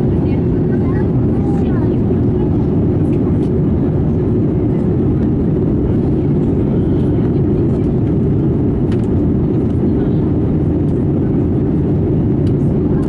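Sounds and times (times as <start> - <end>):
airplane cabin engine rush: 0.0 - 13.0.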